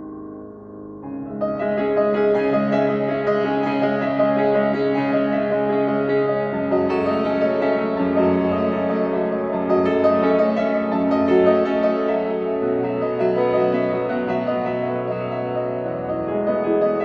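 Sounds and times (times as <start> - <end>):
slow solo piano piece: 0.0 - 17.0.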